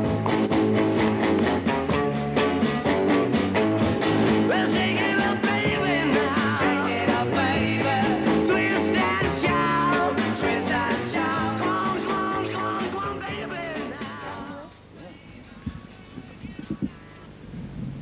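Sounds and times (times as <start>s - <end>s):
rock music with singing: 0.0s - 17.4s.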